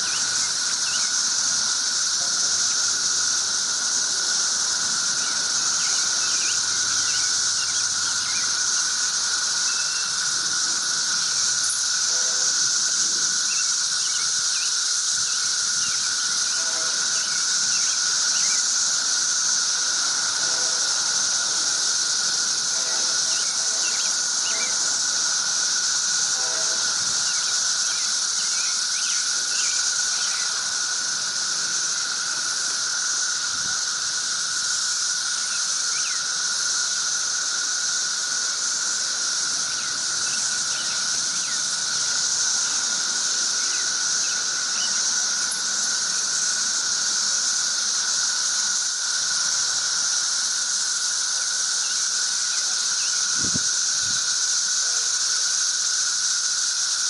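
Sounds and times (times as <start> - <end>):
cicada chorus drone: 0.0 - 57.0.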